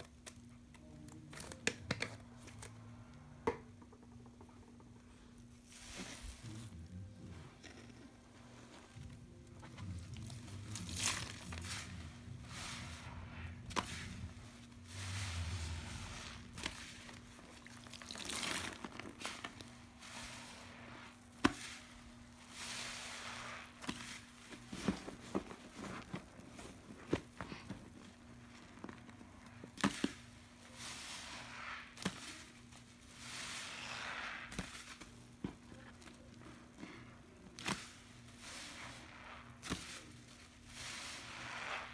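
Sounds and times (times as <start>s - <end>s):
wet sponges squelching: 4.6s - 41.9s.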